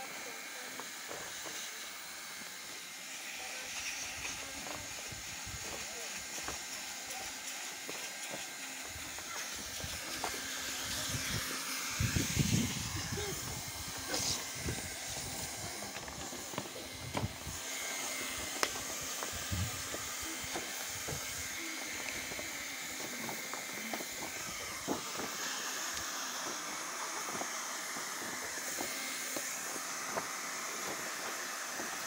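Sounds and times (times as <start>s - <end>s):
hot-air welding gun hissing: 0.0s - 32.0s.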